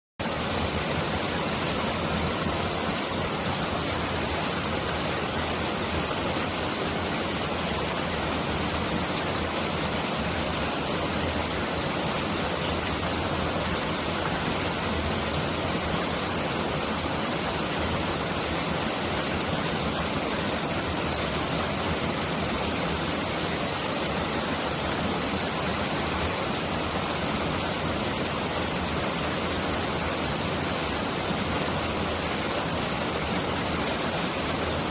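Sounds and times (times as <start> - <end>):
stream rushing over rocks: 0.2 - 34.9.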